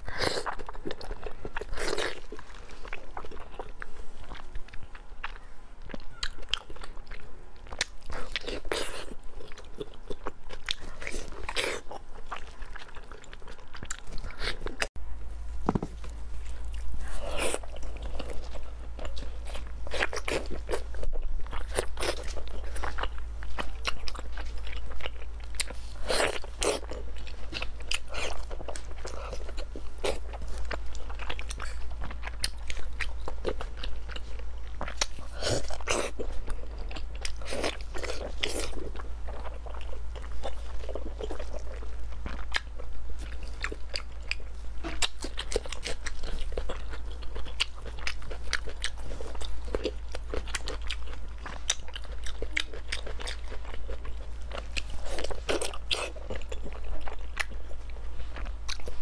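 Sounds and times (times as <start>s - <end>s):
person chewing soft meat: 0.0s - 15.0s, 16.0s - 59.0s
steady low hum: 0.0s - 59.0s.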